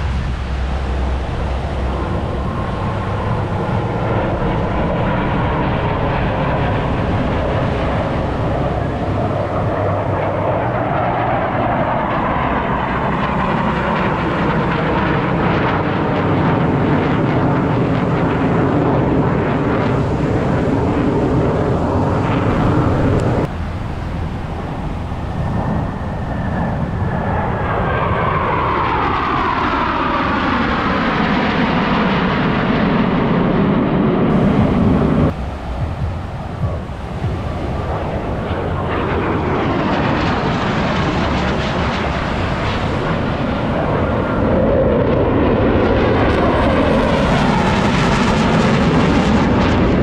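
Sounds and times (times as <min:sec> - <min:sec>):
jet engines roaring: 0:00.0 - 0:50.0
jet passing with falling whine: 0:00.0 - 0:50.0.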